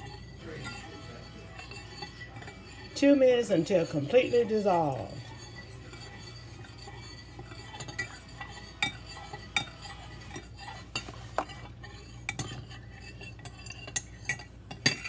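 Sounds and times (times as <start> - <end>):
utensil clinking against bowl: 0.0 - 15.0.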